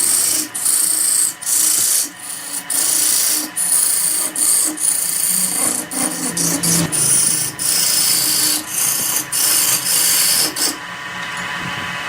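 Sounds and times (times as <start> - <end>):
tool scraping spinning wood: 0.0 - 11.0
lathe motor humming: 0.0 - 12.0.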